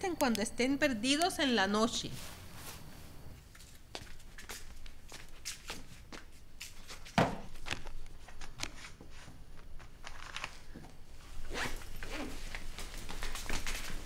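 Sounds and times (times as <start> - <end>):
cloth rustling: 2.0 - 14.0.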